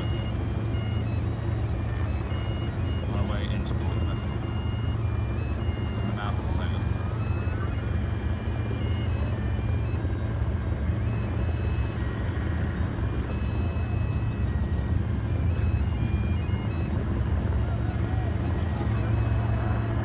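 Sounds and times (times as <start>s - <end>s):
distant engines: 0.0s - 20.0s
faint tune of held notes: 0.0s - 20.0s
wind on microphone: 0.0s - 20.0s.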